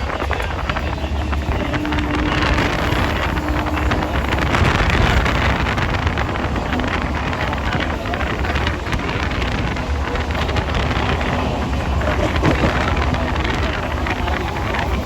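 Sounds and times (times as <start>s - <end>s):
rumble of moving train: 0.0s - 15.0s
wind buffeting microphone: 0.0s - 15.0s.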